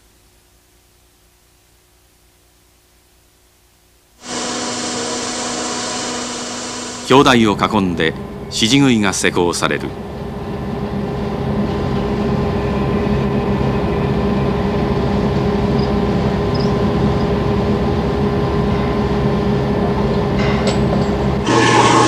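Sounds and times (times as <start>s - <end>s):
construction machinery droning: 4.2s - 22.0s.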